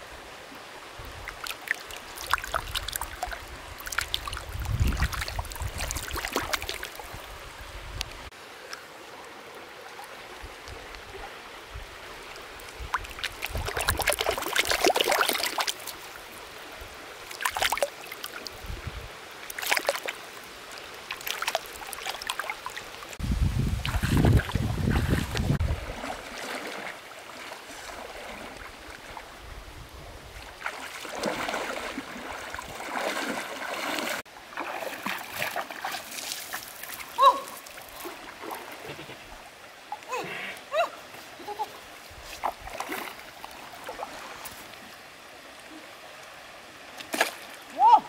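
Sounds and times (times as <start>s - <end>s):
water splashing and sloshing: 0.0s - 48.0s.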